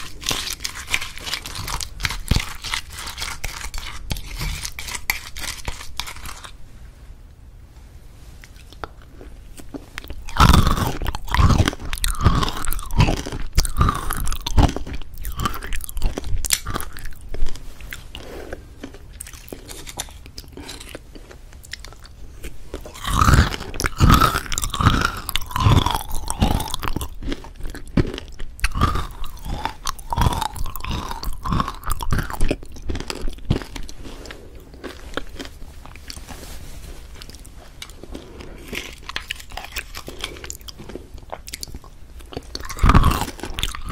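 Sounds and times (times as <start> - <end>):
crunching and chewing: 0.0 - 6.6, 8.4 - 43.9.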